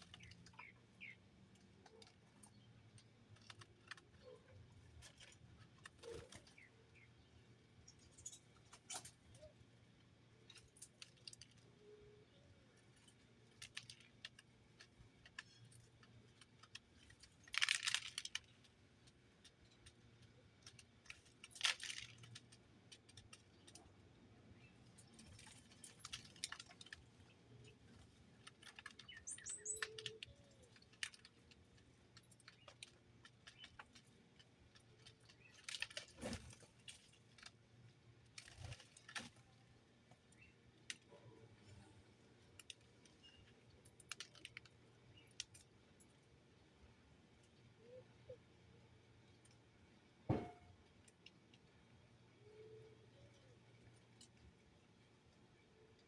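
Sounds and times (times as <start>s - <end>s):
birds pecking and rustling: 0.0s - 56.0s.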